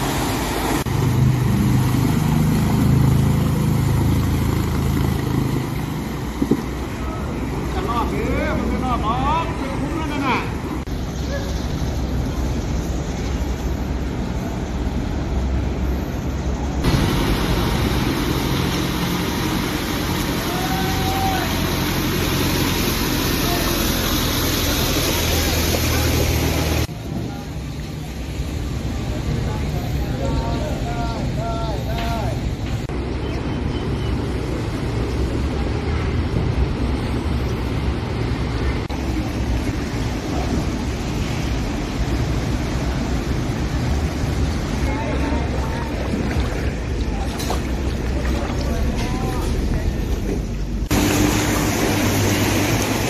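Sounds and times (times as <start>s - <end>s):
road traffic rumble: 0.0s - 53.0s
vehicle engines humming: 0.0s - 53.0s
water wash: 0.0s - 53.0s.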